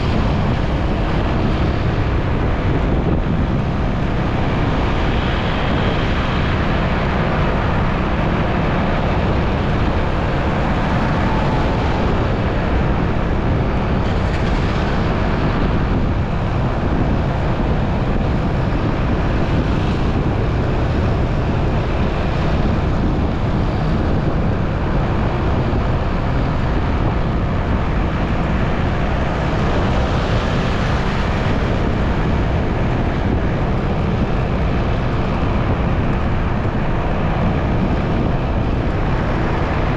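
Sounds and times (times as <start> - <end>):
road noise: 0.0 - 39.9
wind on microphone: 0.0 - 39.9.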